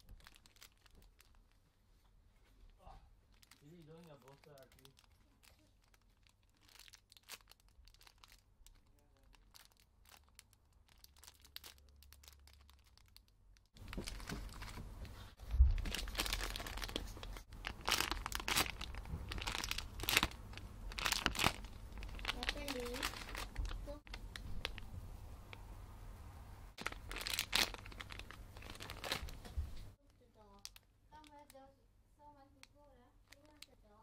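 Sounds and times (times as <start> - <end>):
plastic packaging crinkling: 0.0 - 1.6, 3.2 - 25.6, 26.8 - 31.7, 32.6 - 34.0.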